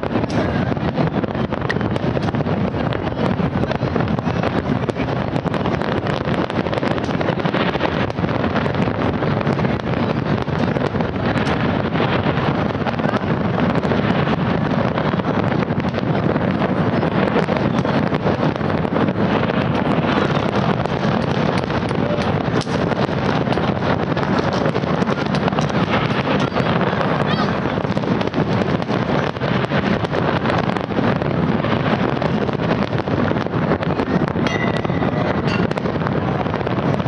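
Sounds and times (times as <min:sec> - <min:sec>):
fireworks bursts and crackles: 0:00.0 - 0:37.0
wind buffeting microphone: 0:00.0 - 0:37.0.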